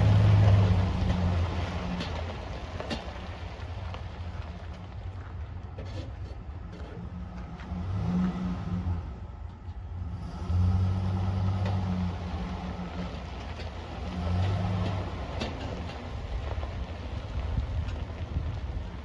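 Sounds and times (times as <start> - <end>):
motorhome engine humming: 0.0 - 19.0.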